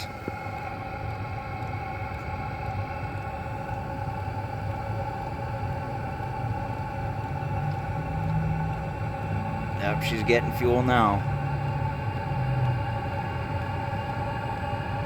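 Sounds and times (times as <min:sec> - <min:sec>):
air heater blower humming: 0:00.0 - 0:15.0.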